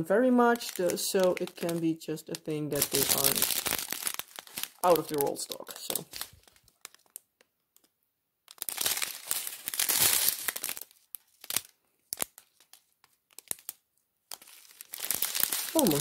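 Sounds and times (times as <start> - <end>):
plastic bags crinkling: 0.0 - 7.3, 8.5 - 16.0.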